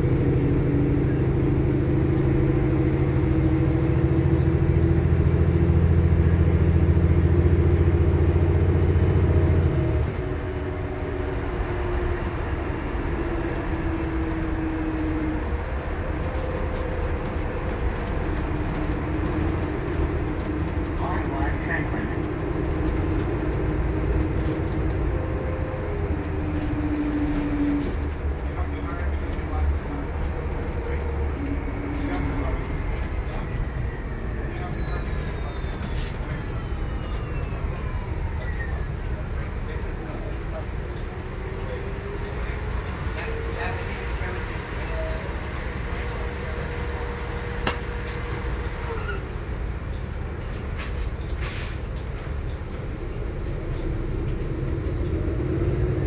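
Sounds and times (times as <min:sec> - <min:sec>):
bus road rumble: 0:00.0 - 0:56.0.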